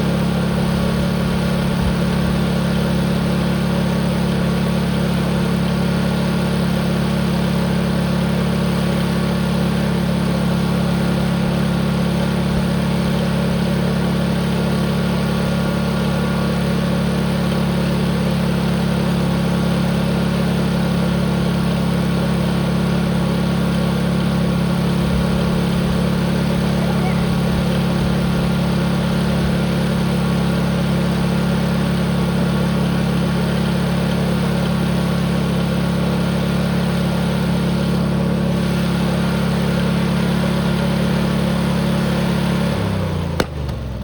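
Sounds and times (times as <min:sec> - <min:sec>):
tractor engine at full throttle: 0:00.0 - 0:44.0.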